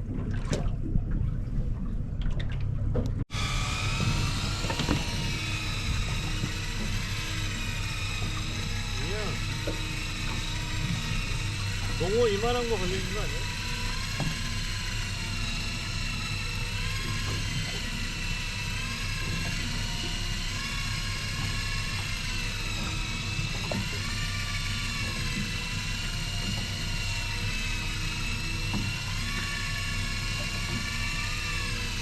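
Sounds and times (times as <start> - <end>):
boat engine humming: 0.0 - 32.0
electric fishing reel motor whining: 3.3 - 32.0.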